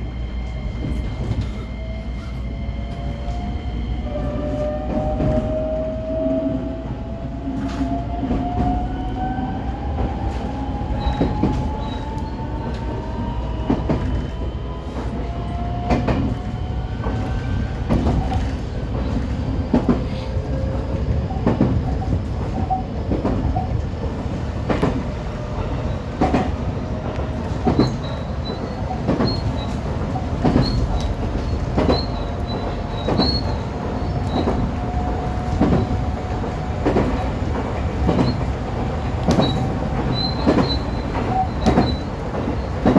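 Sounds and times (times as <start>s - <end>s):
train rumble: 0.0s - 42.9s.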